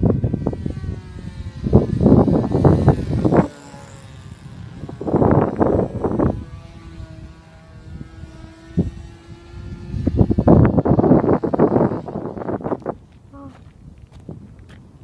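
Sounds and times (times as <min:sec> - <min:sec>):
model airplane engine drone: 0:00.0 - 0:15.0
wind noise on microphone: 0:00.0 - 0:15.0.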